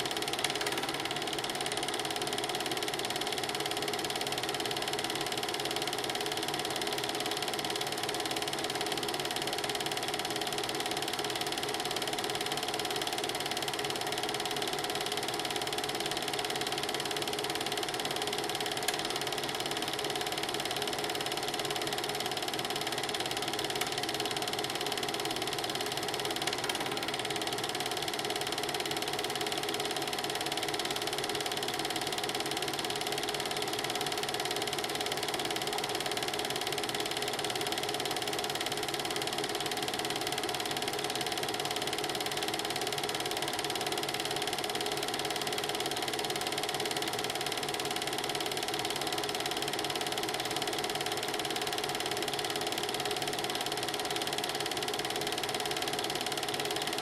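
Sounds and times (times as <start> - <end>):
film projector whirring: 0.0 - 57.0.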